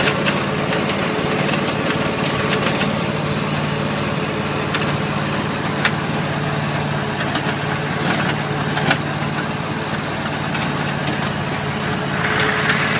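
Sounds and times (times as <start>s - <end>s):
tractor engine idling: 0.0s - 12.9s.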